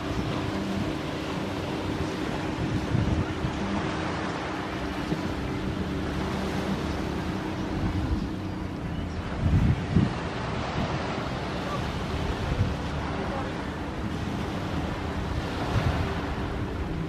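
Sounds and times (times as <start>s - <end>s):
waves rushing: 0.0s - 17.0s
wind buffeting microphone: 0.0s - 17.0s.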